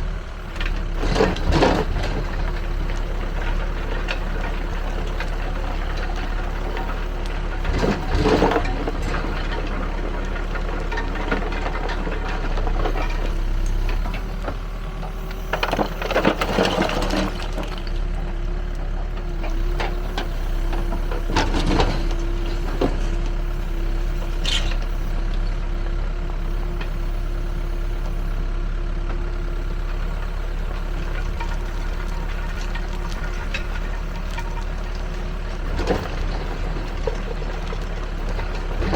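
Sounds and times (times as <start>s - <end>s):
diesel engine running: 0.0s - 38.9s
rubble and soil clattering: 0.0s - 38.9s.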